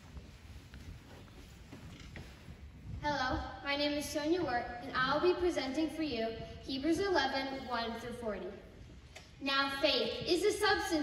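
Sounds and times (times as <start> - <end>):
faint footsteps: 0.0 - 9.4
low room rumble: 0.0 - 11.0.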